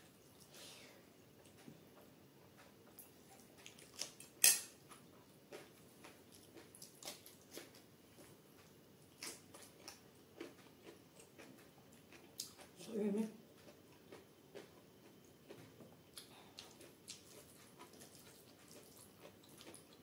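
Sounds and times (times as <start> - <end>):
chewing crunches: 2.6 - 12.8, 13.5 - 20.0.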